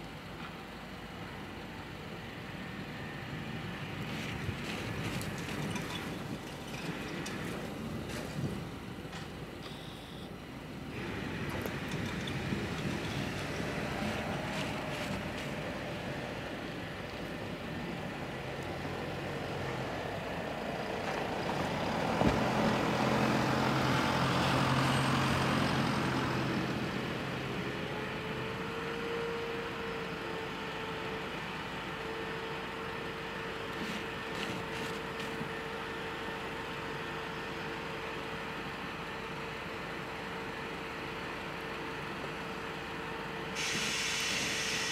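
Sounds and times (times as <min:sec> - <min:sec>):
streetcar grinding over snow: 0:00.0 - 0:09.7, 0:10.4 - 0:44.9.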